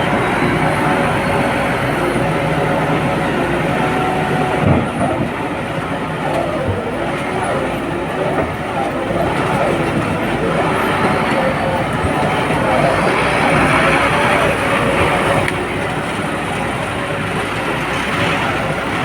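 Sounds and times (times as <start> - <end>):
wood crusher shredding wood: 0.0 - 19.0.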